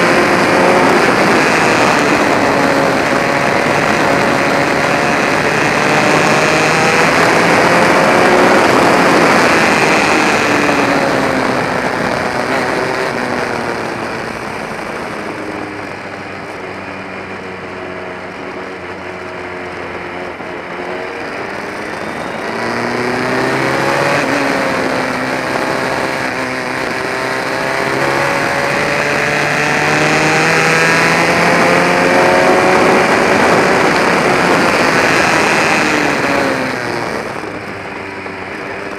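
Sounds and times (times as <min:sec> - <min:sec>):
racing car engine: 0:00.0 - 0:38.9.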